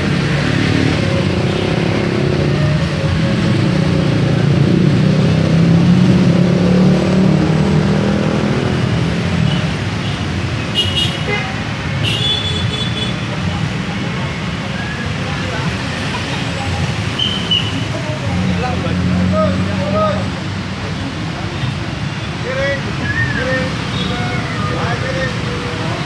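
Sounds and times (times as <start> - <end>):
car and motorcycle engines: 0.0 - 26.0.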